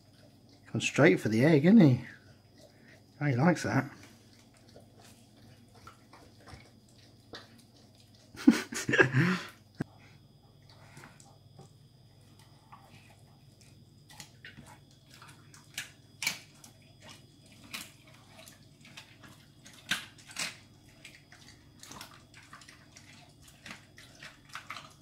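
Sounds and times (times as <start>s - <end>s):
dog licking and chewing food: 0.0s - 8.8s, 9.6s - 25.0s.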